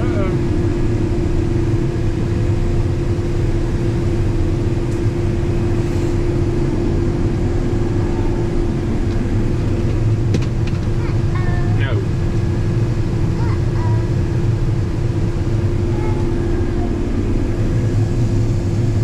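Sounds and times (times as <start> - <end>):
combine harvester engine drone: 0.0 - 19.0
steady hum: 0.0 - 19.0.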